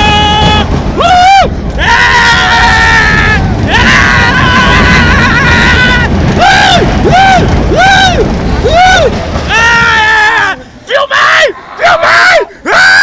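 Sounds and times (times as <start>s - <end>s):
wind rumble on microphone: 0.0s - 10.6s
riders screaming: 0.0s - 13.0s.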